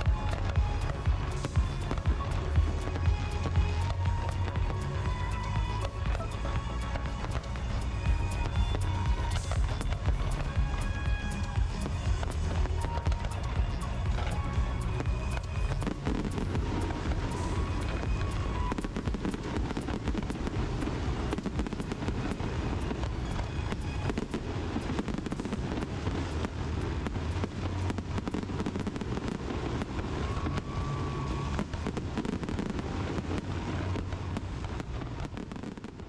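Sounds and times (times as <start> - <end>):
fireworks crackling pops: 0.0 - 36.0
steady rumble: 0.0 - 36.0.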